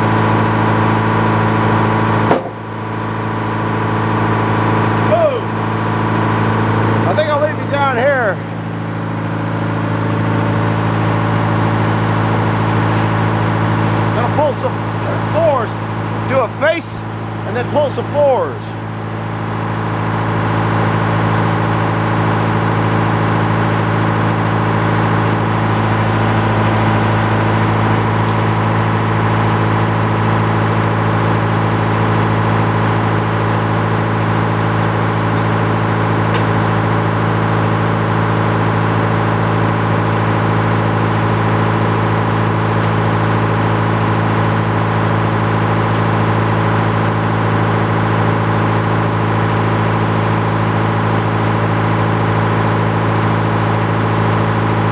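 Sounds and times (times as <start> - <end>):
engine idling: 0.0 - 54.9.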